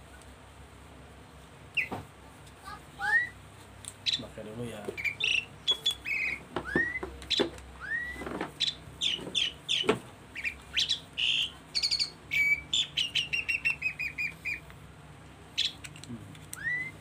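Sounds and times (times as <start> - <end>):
small birds chirping: 1.7 - 14.8, 15.5 - 17.0.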